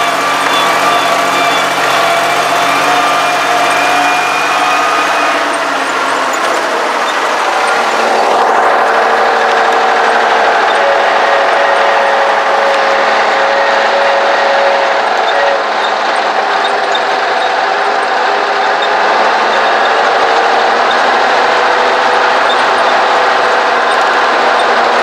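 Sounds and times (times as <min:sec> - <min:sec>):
tractor diesel engine drone: 0:00.0 - 0:25.0.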